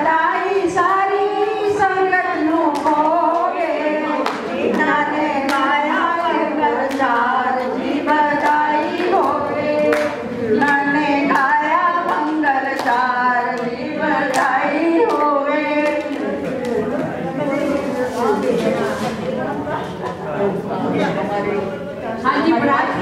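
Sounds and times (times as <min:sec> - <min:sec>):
group of voices singing: 0:00.0 - 0:19.3, 0:22.2 - 0:23.0.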